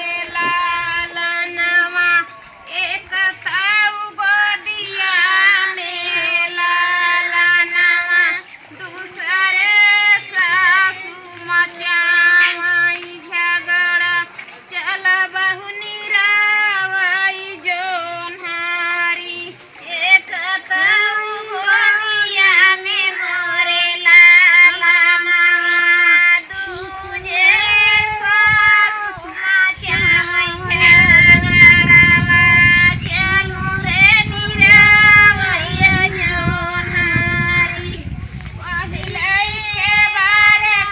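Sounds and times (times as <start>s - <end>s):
women singing folk song: 0.0s - 40.9s.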